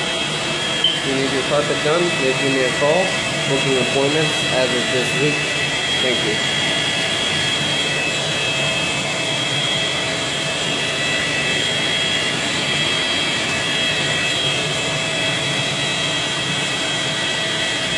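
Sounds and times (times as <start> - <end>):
carpet cleaning machine whine: 0.0 - 17.9.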